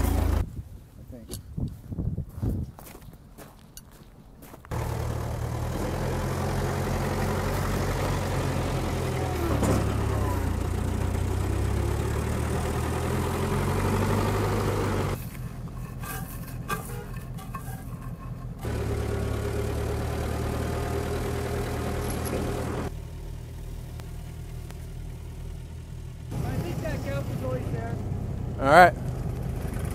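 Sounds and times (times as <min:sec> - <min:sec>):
heavy engine idling: 0:00.0 - 0:00.4, 0:04.7 - 0:29.9.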